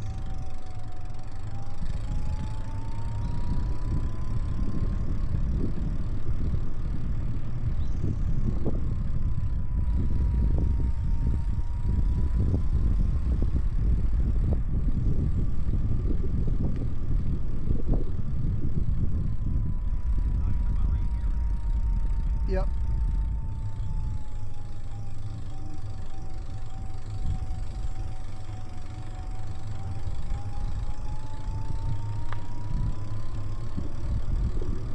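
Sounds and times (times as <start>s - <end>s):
electric motor whine: 0.0s - 34.9s
wind rumble on microphone: 0.0s - 34.9s.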